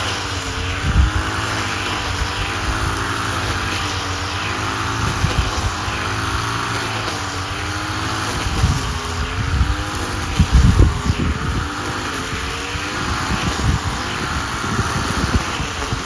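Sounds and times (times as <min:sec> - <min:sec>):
engine running: 0:00.0 - 0:16.0
wind thumping on microphone: 0:00.5 - 0:03.8, 0:04.5 - 0:06.6, 0:07.8 - 0:16.0.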